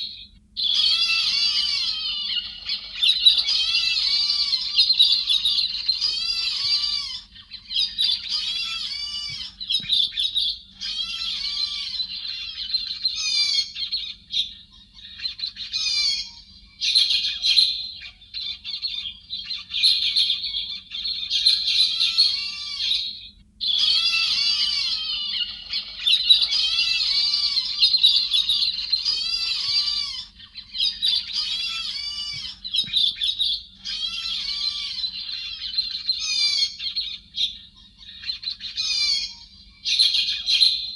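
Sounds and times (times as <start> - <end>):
faint low hum: 0.0 - 40.9
thrushes chattering squawks: 0.0 - 40.9.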